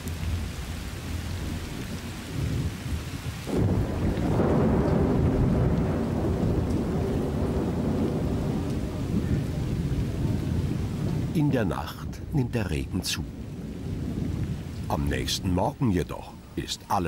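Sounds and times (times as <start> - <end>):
thunder rumbling: 0.0 - 16.9
rain falling: 0.0 - 17.0.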